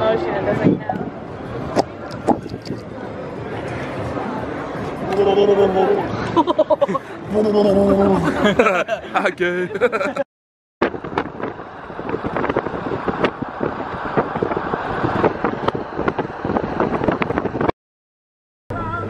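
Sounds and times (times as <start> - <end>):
road and wind noise: 0.0 - 10.2, 10.8 - 17.8, 18.7 - 19.0.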